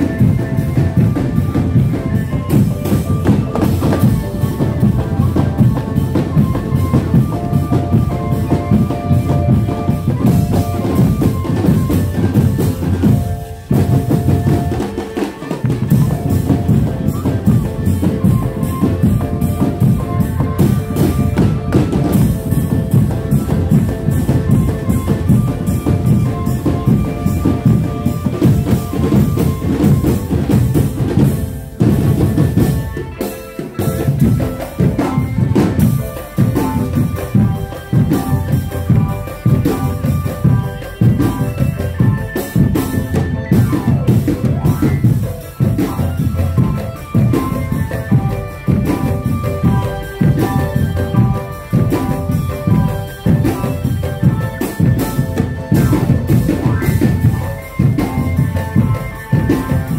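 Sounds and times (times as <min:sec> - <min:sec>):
drumband music: 0:00.0 - 0:59.9.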